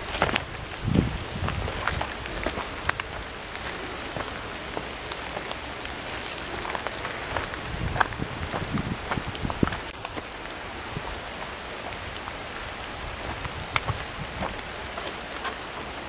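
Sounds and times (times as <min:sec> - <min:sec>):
rain drop ticks: 0:00.0 - 0:16.0
rain falling on trees: 0:00.0 - 0:16.0.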